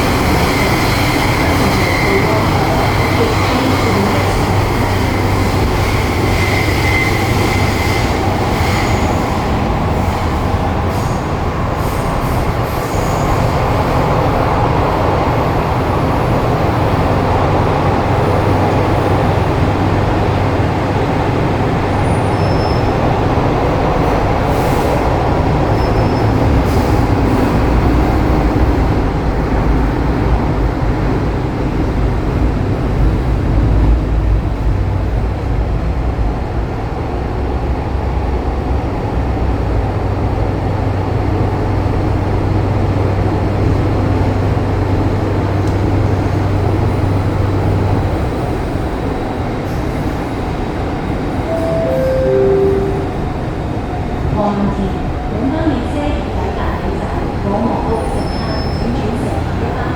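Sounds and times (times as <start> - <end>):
train wheel and motor rumble: 0.0 - 59.9.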